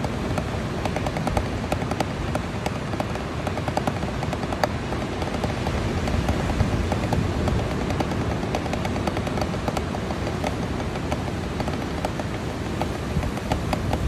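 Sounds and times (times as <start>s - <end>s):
drumsticks on practice pad: 0.0s - 14.0s
surf and wind rumble: 0.0s - 14.0s.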